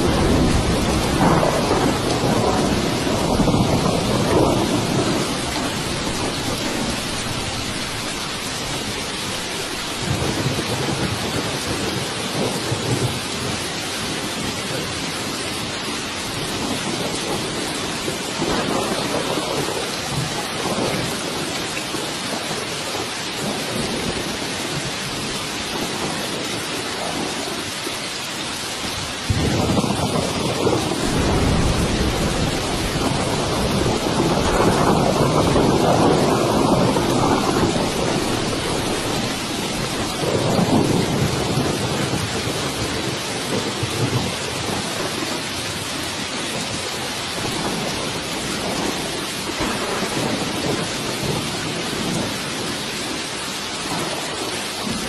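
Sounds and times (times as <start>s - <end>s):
heavy rain hissing: 0.0s - 55.0s
thunder rumbling: 0.0s - 55.0s.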